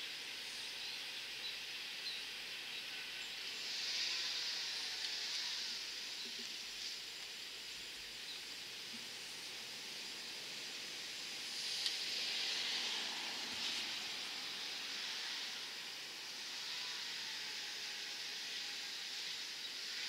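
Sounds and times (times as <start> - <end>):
high outdoor background hiss: 0.0 - 20.0.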